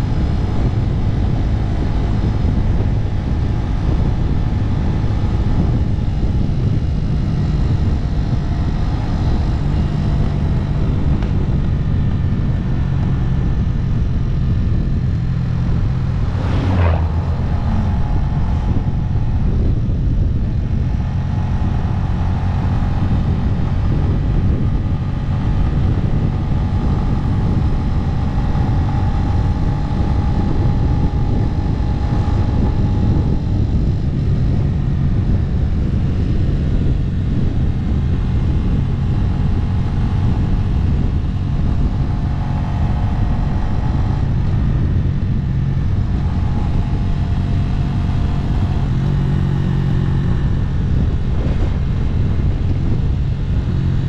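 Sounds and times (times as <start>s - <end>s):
motorcycle engine running: 0.0s - 54.0s
rush of noise: 0.0s - 54.0s.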